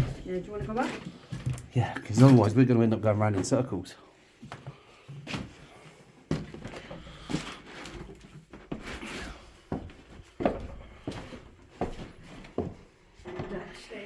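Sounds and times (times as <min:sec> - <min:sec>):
footsteps climbing stairs: 0:00.0 - 0:02.4, 0:04.4 - 0:14.0.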